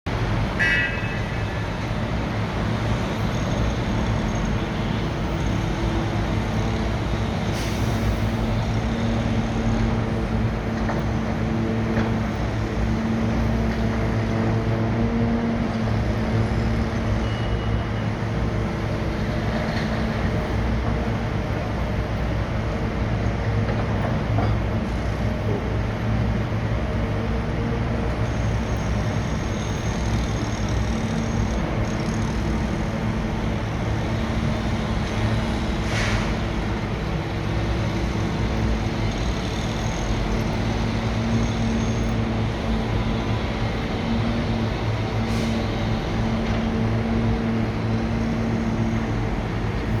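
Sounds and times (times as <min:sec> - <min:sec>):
large engine humming: 0:00.1 - 0:50.0.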